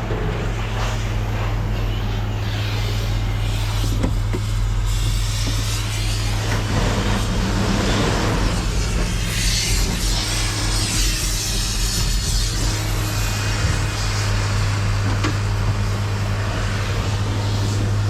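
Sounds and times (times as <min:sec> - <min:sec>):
truck engine and road drone: 0:00.0 - 0:18.0.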